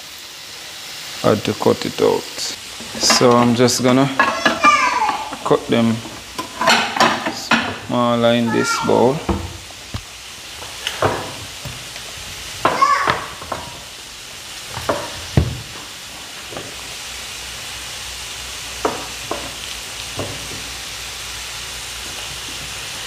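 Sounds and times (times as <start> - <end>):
chicken sizzling in oil: 0.0 - 23.0.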